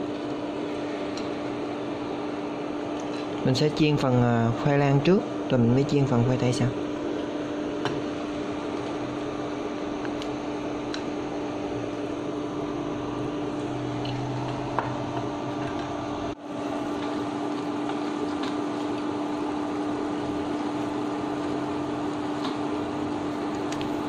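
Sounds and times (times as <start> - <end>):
cooktop hum: 0.0 - 24.0.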